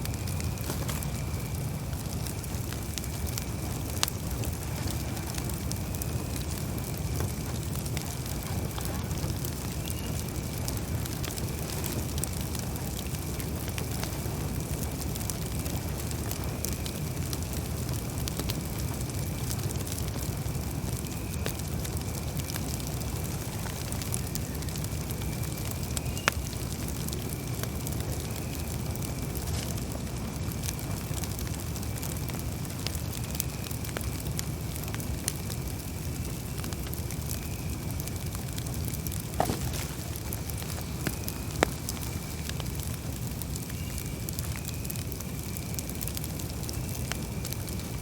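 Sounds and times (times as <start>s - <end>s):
flames rumbling: 0.0s - 48.0s
wood crackling and popping: 0.0s - 48.0s.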